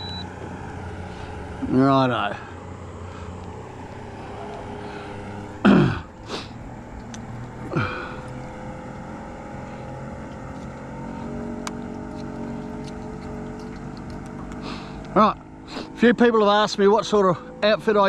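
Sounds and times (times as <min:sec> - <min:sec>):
boat motor droning: 0:00.0 - 0:18.0.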